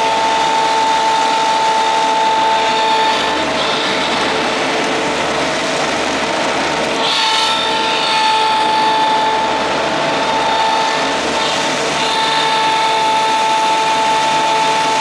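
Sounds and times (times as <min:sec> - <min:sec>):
diesel engine running: 0:00.0 - 0:15.0
vacuum fan whine: 0:00.0 - 0:15.0.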